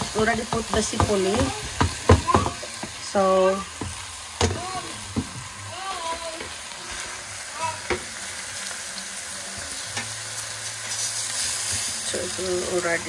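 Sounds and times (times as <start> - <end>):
chicken and onions sizzling: 0.0 - 13.0.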